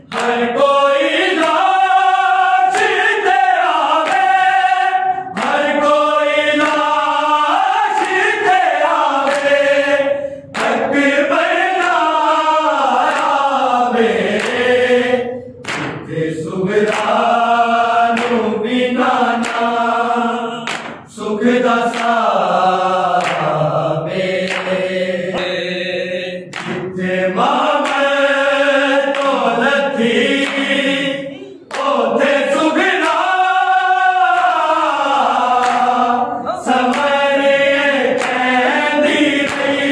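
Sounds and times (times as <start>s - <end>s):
men singing in chorus: 0.0s - 39.9s.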